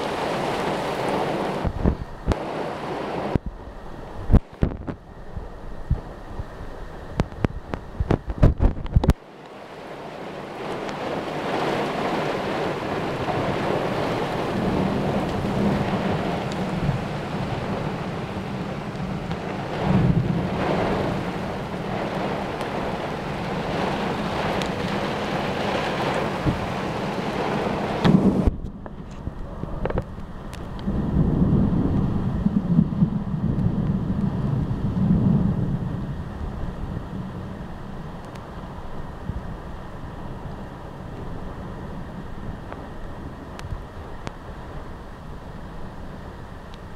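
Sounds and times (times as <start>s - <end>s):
gusting wind: 0.0s - 46.9s
heavy rain on a car: 0.0s - 46.9s.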